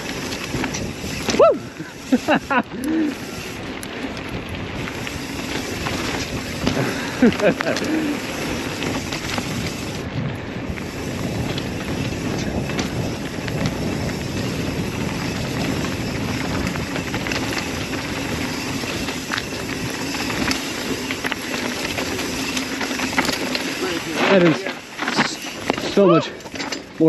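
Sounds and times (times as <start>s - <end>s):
bike clicks and rattles: 0.0s - 27.0s
tyres rolling over dirt: 0.0s - 27.0s
wind rush on microphone: 0.0s - 27.0s.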